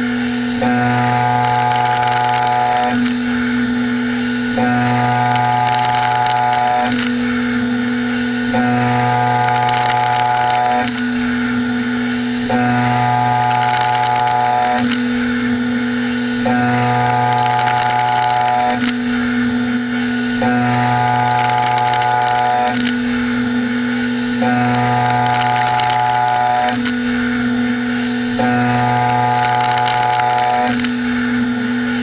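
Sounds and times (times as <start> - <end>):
milling cutter whine: 0.0 - 32.0.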